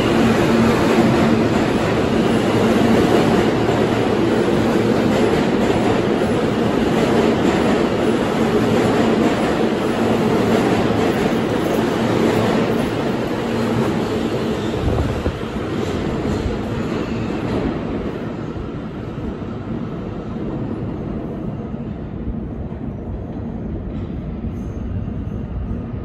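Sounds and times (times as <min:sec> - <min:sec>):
subway wheels on rails: 0:00.0 - 0:26.0.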